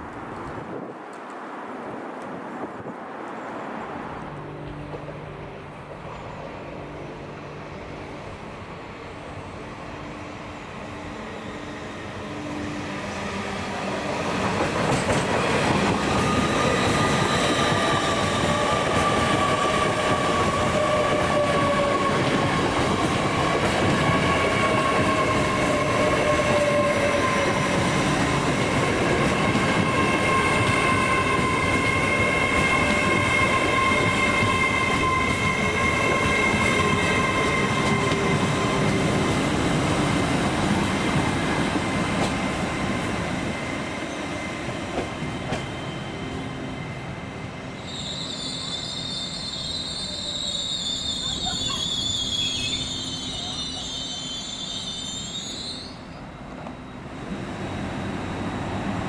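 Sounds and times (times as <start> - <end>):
train passing: 0.0 - 59.0.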